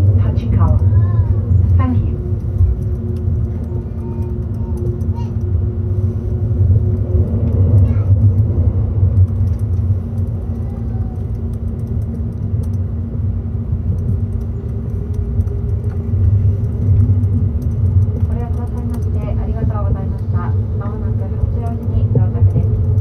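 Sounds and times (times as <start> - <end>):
faint hum: 0.0 - 23.0
train wheels rumbling on rails: 0.0 - 23.0.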